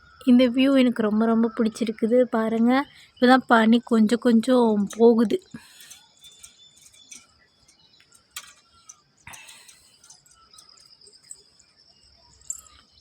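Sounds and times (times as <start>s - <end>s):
bird chirps: 0.0s - 13.0s
high insect trill: 0.0s - 13.0s.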